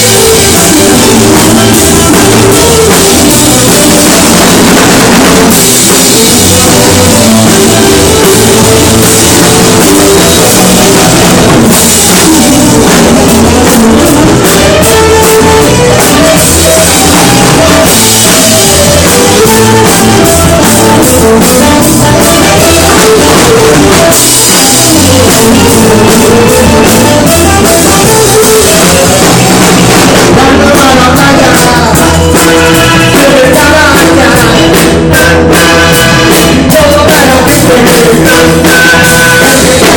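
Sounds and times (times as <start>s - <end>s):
drum kit beat: 0.0s - 39.9s
loud rock music: 0.0s - 39.9s.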